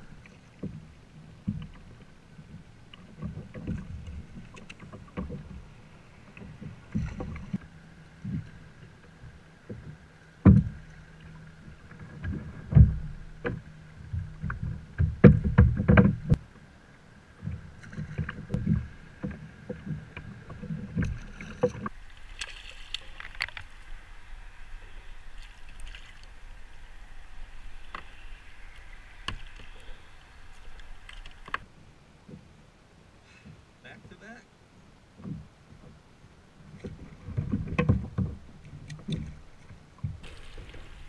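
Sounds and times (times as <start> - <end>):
water lapping at hull: 0.0 - 41.0.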